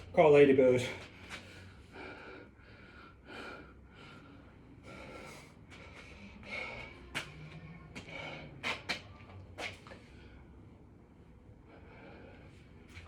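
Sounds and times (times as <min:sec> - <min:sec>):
man breathing heavily: 0:00.8 - 0:07.4, 0:08.0 - 0:08.9, 0:09.9 - 0:13.0.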